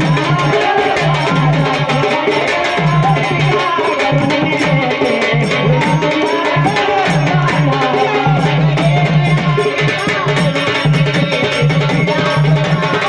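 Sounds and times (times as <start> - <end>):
drum beat: 0.0 - 13.0.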